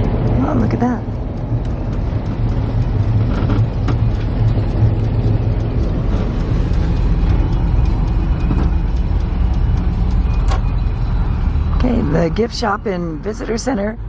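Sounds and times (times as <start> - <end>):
van engine and road rumble: 0.0 - 14.0.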